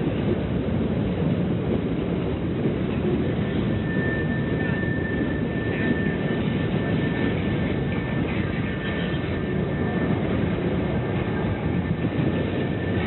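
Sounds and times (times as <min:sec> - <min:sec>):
high squeal of train: 0:00.0 - 0:13.0
train rumbling: 0:00.0 - 0:13.0.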